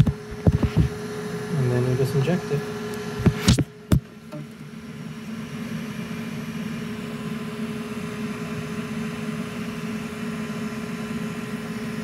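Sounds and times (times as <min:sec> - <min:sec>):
machine hum with faint whine: 0:00.0 - 0:12.0.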